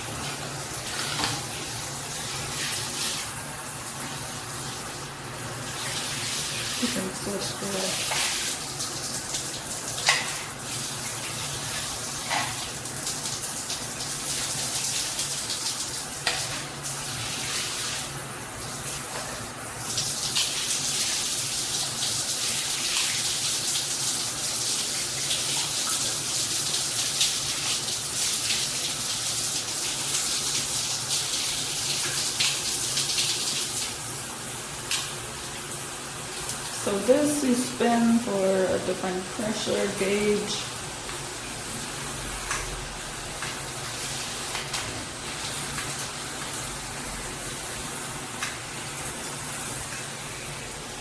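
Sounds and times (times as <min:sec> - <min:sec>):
shower water spraying: 0:00.0 - 0:51.0.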